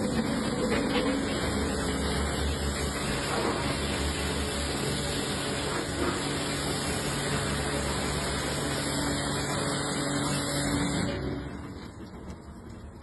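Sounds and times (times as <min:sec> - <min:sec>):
pressure washer spraying metal: 0:00.0 - 0:11.3
pump humming: 0:00.0 - 0:13.0.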